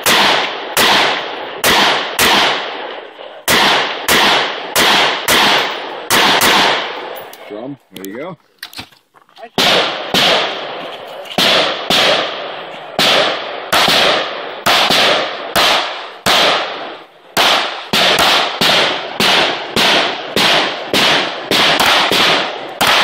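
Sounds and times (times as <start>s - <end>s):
handgun shots echoing: 0.0s - 7.3s, 9.6s - 10.8s, 11.4s - 23.0s.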